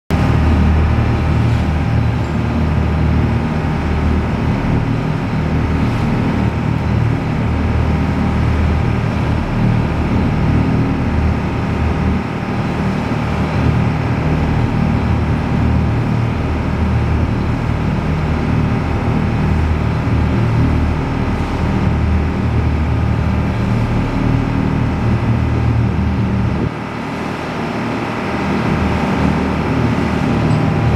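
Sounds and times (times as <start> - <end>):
motorboat engine running: 0.1 - 30.9
water rushing along hull: 0.1 - 30.9.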